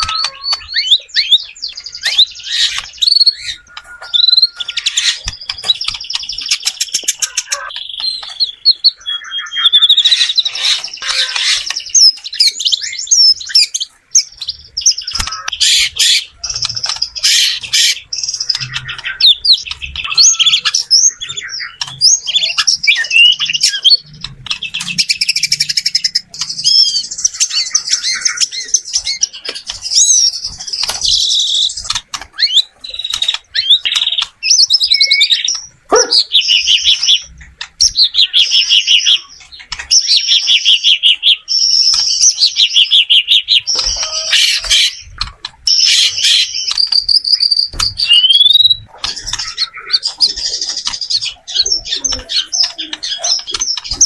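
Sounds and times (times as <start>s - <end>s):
songbird whistling and trilling: 0.0s - 54.0s.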